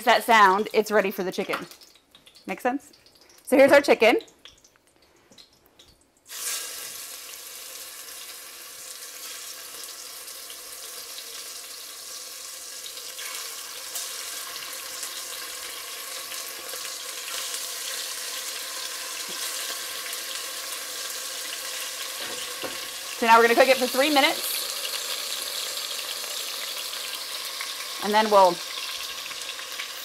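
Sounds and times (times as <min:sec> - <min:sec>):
chicken sizzling in hot oil: 0:05.4 - 0:30.0.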